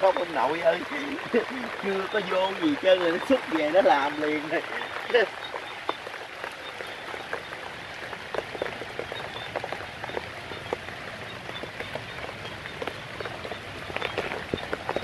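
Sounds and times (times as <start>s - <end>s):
rain falling: 0.0s - 15.0s
raindrops ticking: 0.0s - 15.0s.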